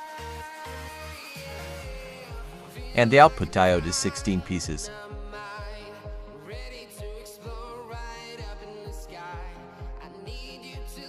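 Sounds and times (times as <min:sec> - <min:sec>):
pop music with kick-drum beat: 0:00.0 - 0:11.0.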